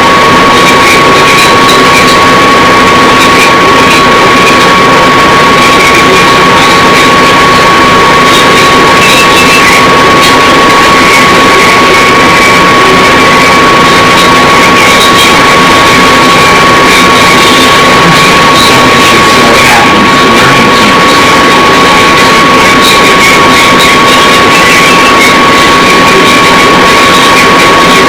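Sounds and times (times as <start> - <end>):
loud mechanical noise: 0.0 - 28.0
tape mechanism whine: 0.0 - 28.0.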